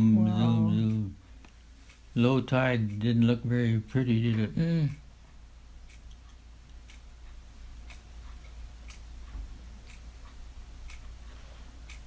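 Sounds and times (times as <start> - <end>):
faint regular ticking: 0.0 - 12.0
low steady hum: 0.0 - 12.0.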